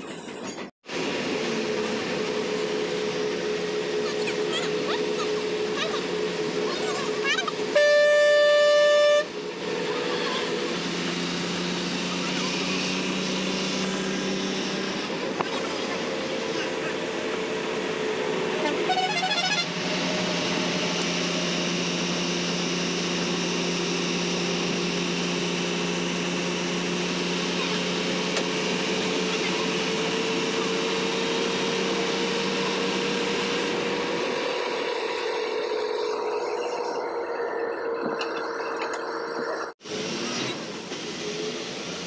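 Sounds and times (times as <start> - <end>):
bus engine drone and whine: 0.0 - 42.0.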